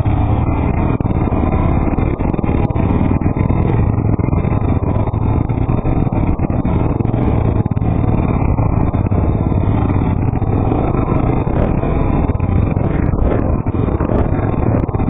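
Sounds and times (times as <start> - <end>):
quad engine running: 0.0 - 15.0.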